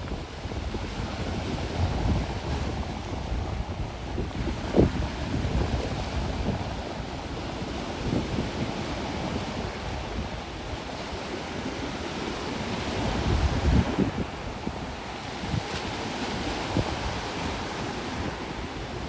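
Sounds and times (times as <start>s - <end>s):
waves on gravel beach: 0.0s - 19.0s
wind buffeting microphone: 0.0s - 19.0s.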